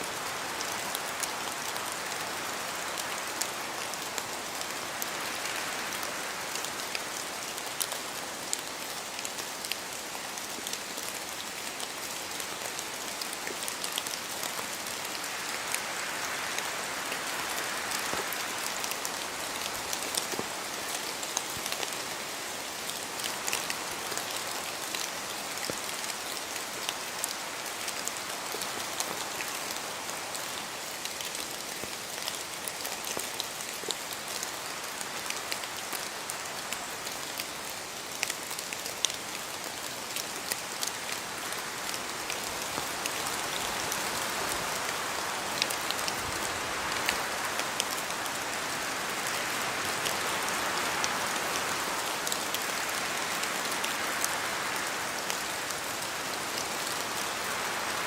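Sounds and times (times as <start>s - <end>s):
rain pattering on leaves: 0.0s - 58.0s
wind through trees: 0.0s - 58.0s.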